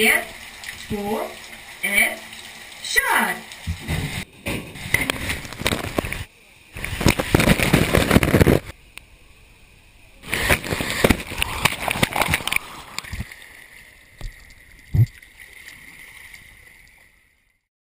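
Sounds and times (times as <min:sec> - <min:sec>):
water rushing and splashing: 0:00.0 - 0:08.8, 0:10.2 - 0:17.3.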